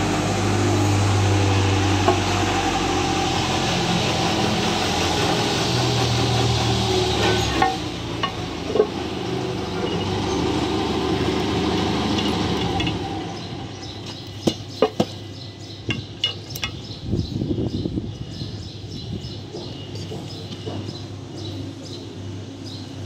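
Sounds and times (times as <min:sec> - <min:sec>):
steady mechanical noise: 0:00.0 - 0:23.0.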